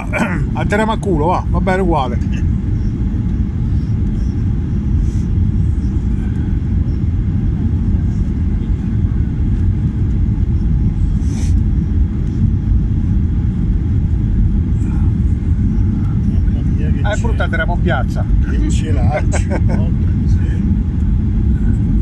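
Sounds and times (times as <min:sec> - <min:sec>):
aircraft cabin engine rumble: 0:00.0 - 0:22.0.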